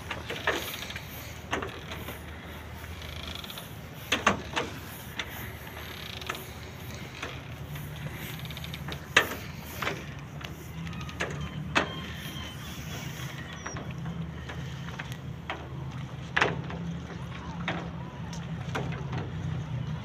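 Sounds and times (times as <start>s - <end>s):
wooden ships creaking and knocking: 0.0s - 20.0s.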